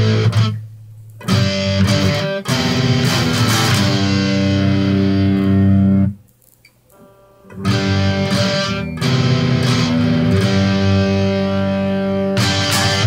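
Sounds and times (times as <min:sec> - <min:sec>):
electric guitar chords strummed: 0:00.0 - 0:06.2, 0:07.0 - 0:13.0.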